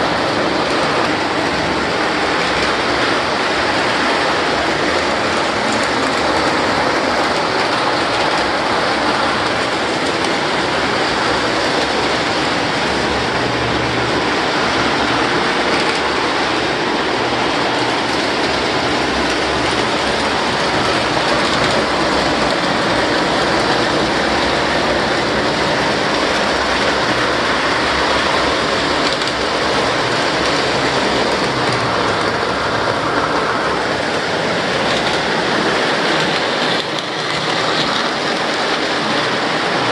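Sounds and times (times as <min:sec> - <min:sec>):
model trains rolling and clattering: 0:00.0 - 0:39.9.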